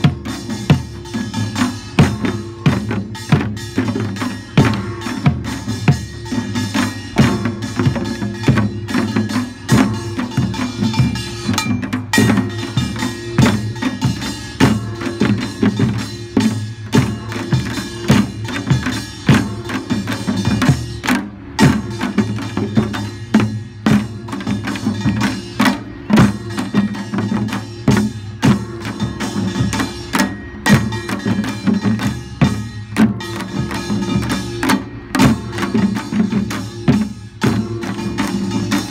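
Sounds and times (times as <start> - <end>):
drums and gongs percussion: 0.0 - 38.9.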